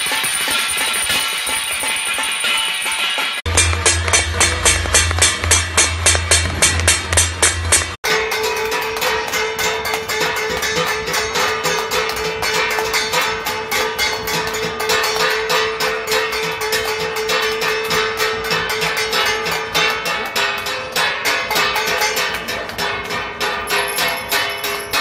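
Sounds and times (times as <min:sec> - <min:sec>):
hand clapping: 0:00.0 - 0:25.0
stick beating metal plate: 0:00.0 - 0:25.0.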